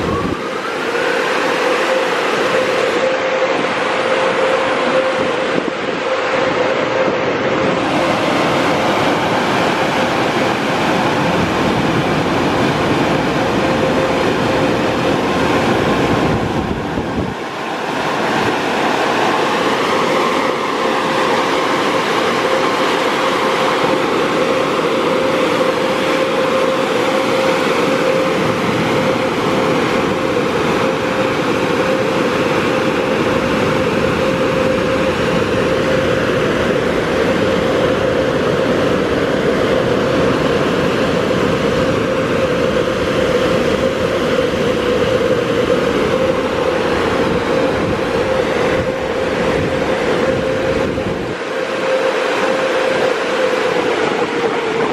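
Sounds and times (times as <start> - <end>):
car wash rushing: 0.0 - 54.9
steady hum: 0.0 - 54.9.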